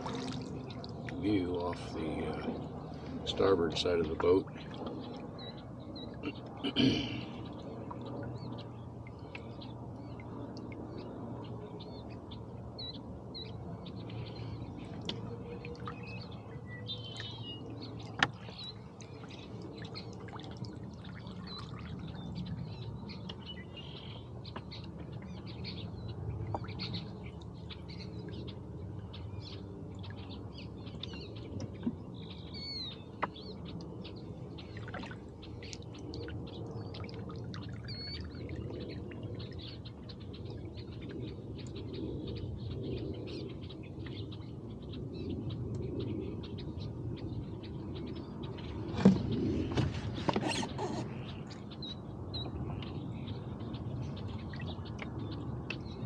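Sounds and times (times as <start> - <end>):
low steady background noise: 0.0 - 50.3
birds chirping: 0.0 - 56.0.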